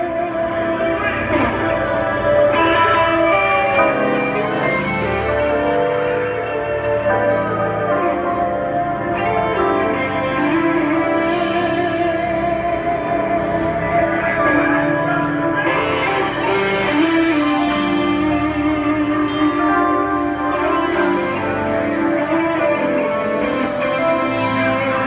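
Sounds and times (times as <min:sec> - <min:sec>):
live band instrumental groove: 0:00.0 - 0:25.0.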